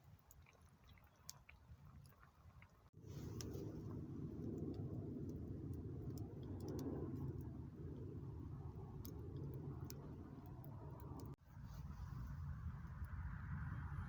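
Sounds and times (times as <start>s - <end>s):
campfire rumble: 0.0s - 14.0s
fire crackling: 0.0s - 14.0s.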